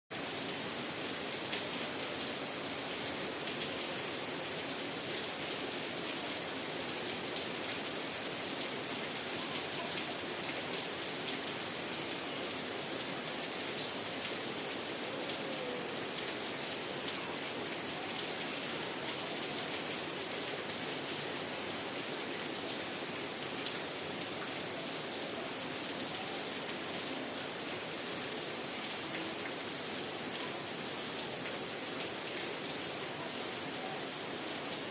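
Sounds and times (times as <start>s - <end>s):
heavy rain: 0.1s - 34.9s.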